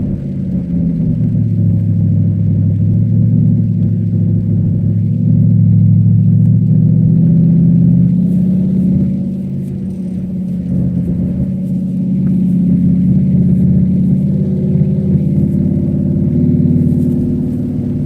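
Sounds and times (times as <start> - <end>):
car engine running under load: 0.0 - 18.0.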